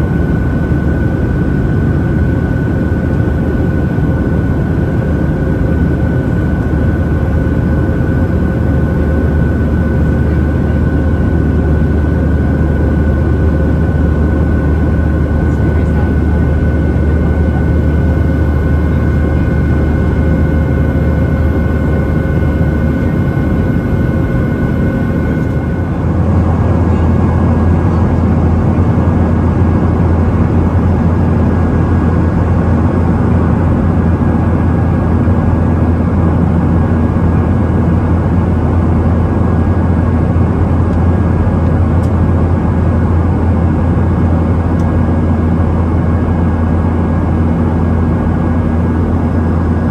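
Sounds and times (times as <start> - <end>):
jet engines droning: 0.0 - 49.9.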